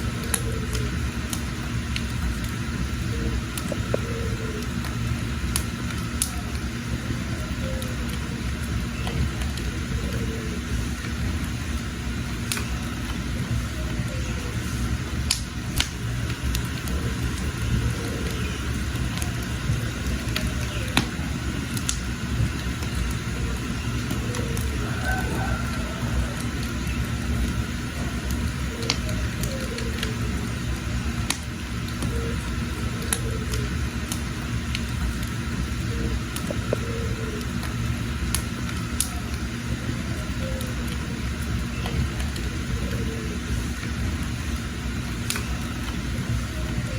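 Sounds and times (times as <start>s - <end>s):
birds chirping: 0.0s - 46.9s
wood fire crackling: 0.0s - 46.9s.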